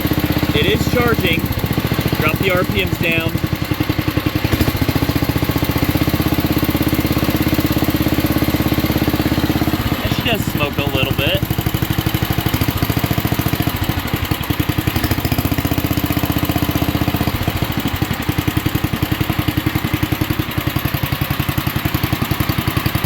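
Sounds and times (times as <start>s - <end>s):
small engine chugging: 0.0s - 23.0s.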